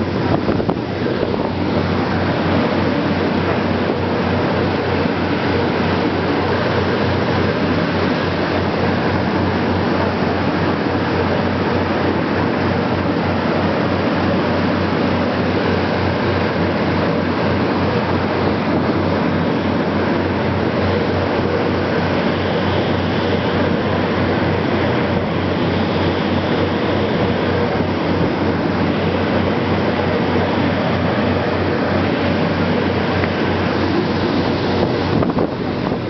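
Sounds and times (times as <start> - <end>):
rushing water: 0.0 - 36.0
wind: 0.0 - 36.0.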